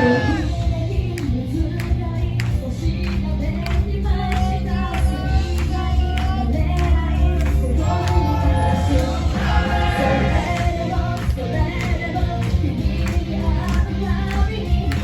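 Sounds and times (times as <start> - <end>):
pop backing track with drums: 0.0 - 15.0
woman singing: 0.0 - 15.0.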